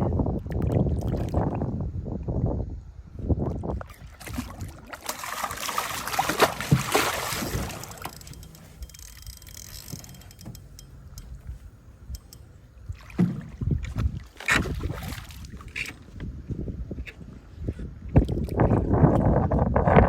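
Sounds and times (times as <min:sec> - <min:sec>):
water splashing against boat: 0:00.1 - 0:02.0, 0:03.2 - 0:20.0.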